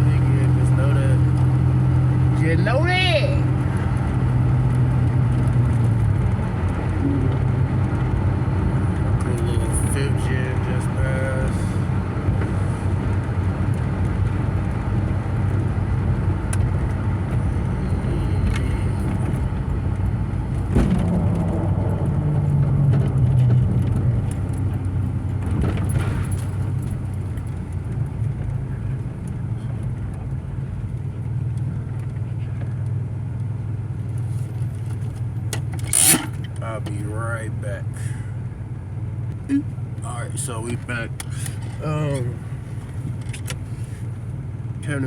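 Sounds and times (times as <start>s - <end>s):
car engine running: 0.0s - 45.0s.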